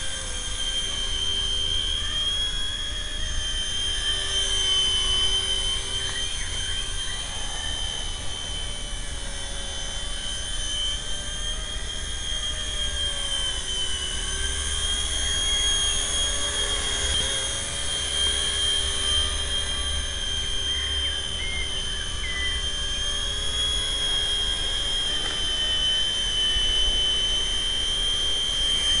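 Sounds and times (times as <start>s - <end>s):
rc helicopter high whine: 0.0s - 29.0s.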